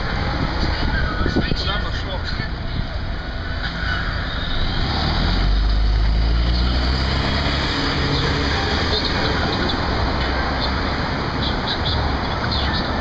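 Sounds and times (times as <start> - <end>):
steady traffic noise: 0.0 - 13.0
vehicle engine rumble: 0.0 - 13.0.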